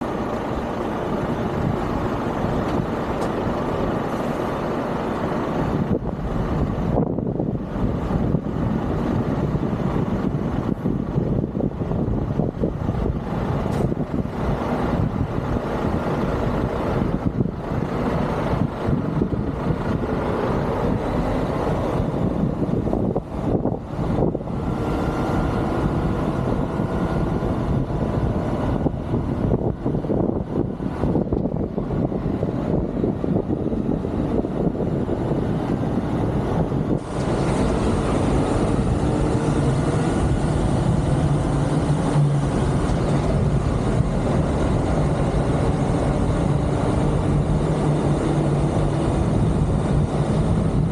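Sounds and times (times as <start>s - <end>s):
truck diesel engine rumbling: 0.0s - 50.9s.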